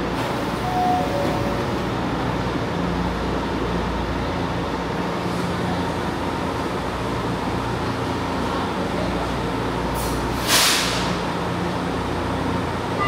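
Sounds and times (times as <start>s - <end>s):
metro train rumbling past: 0.0s - 13.0s.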